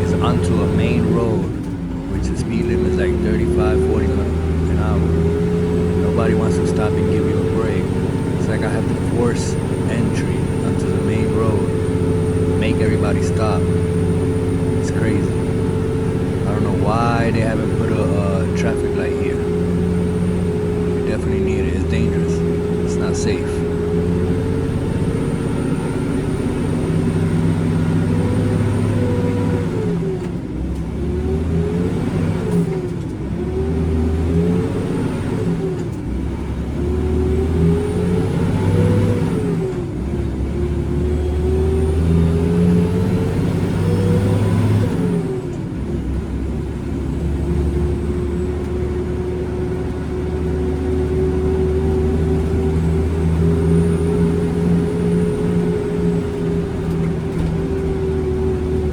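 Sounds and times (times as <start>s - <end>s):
diesel truck engine accelerating: 0.0s - 58.9s.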